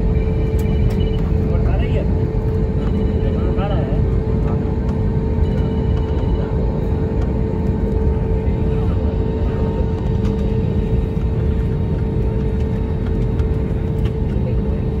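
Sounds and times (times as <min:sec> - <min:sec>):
airliner cabin rumble and hum: 0:00.0 - 0:15.0.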